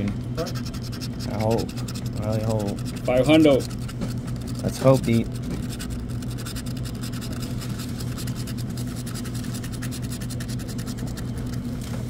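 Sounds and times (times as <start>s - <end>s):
steady low hum: 0.0s - 12.0s
scratching lottery ticket: 0.4s - 12.0s.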